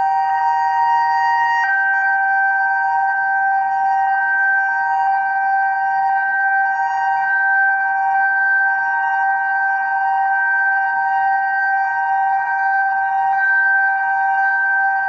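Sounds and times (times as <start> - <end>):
fire siren chord: 0.0 - 15.0.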